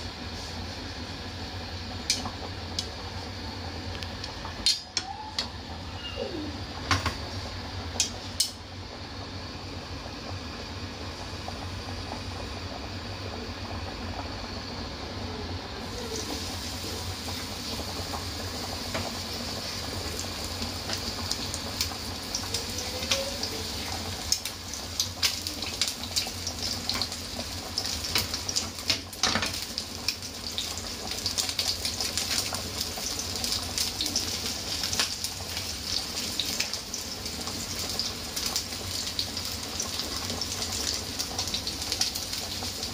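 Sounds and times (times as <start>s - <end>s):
chicken frying in oil: 0.0s - 42.9s.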